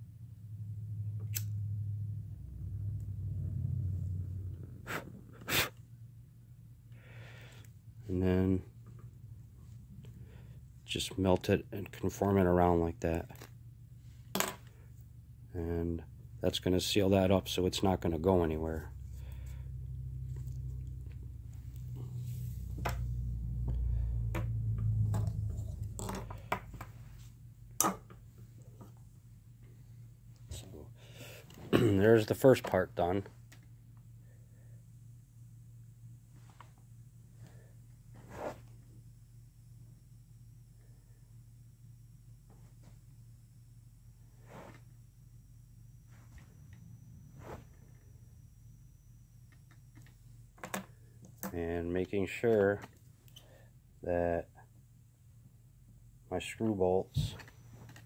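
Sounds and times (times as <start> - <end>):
low steady hum: 0.0 - 58.0
low steady rumble: 0.0 - 58.0.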